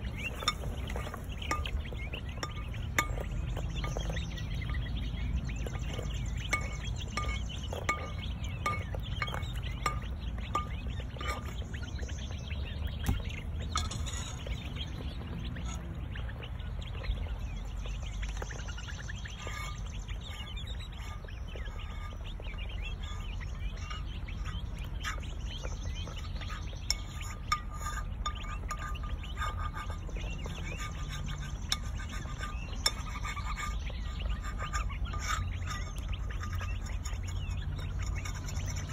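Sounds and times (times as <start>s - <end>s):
low steady outdoor rumble: 0.0s - 38.9s
quail chicks peeping softly: 0.0s - 38.9s.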